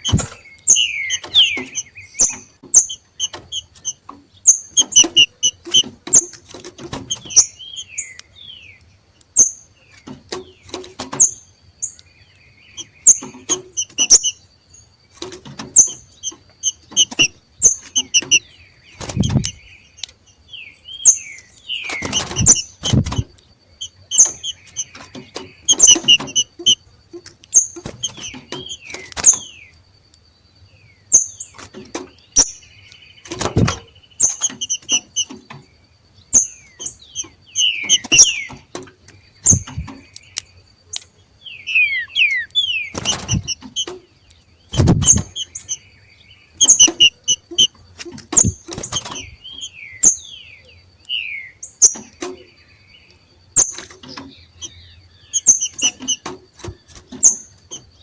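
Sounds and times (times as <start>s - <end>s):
birds calling with clicks and chirps: 0.0s - 58.0s.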